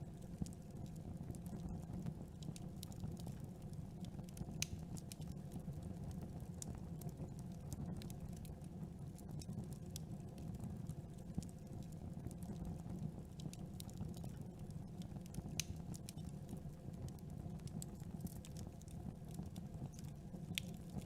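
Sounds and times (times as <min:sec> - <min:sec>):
low rumble of flames: 0:00.0 - 0:21.0
wood crackling and popping: 0:00.0 - 0:21.0.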